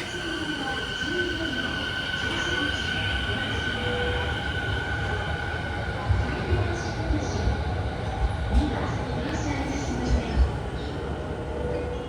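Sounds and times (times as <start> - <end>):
electric train whine and rumble: 0.0 - 12.0.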